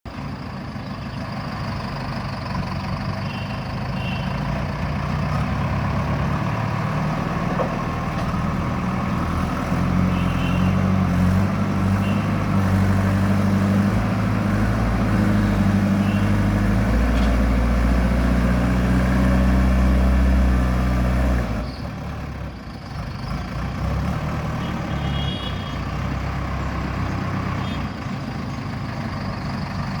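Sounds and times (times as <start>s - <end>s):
heavy machine engine under load: 0.1s - 30.0s.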